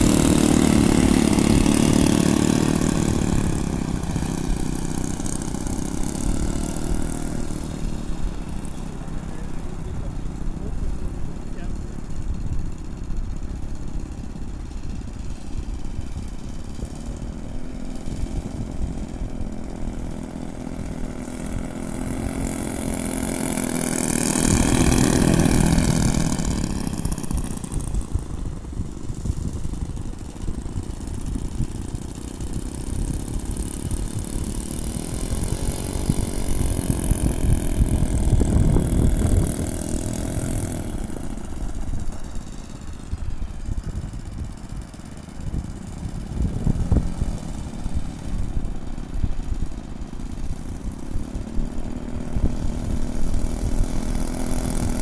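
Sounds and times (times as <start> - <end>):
model airplane engines running: 0.0 - 55.0.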